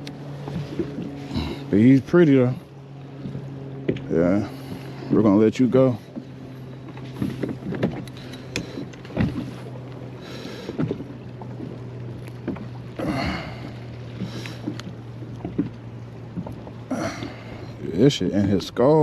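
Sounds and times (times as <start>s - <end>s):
rustling and splashing: 0.0s - 18.8s
steady low hum: 0.0s - 19.0s.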